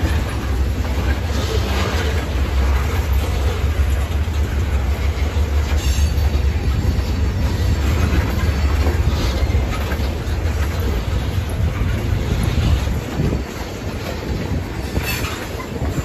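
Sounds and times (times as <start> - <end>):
train wheels rumbling on rail: 0.0 - 16.0
wheels clacking on rail joints: 0.0 - 16.0.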